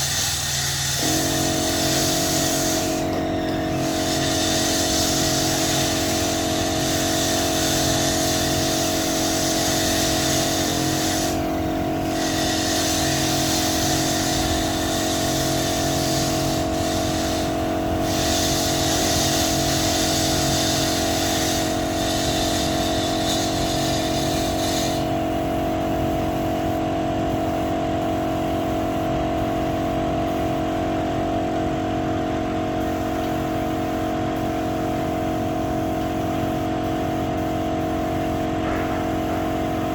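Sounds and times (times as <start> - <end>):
spray gun hissing: 0.0 - 30.7, 32.8 - 39.9
air compressor motor running: 0.0 - 39.9.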